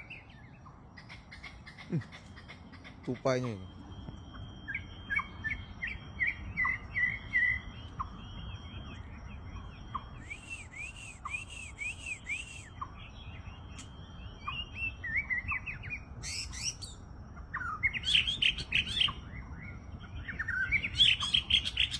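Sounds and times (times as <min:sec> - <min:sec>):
bird singing chirps and whistles: 0:00.0 - 0:00.8, 0:02.2 - 0:21.9.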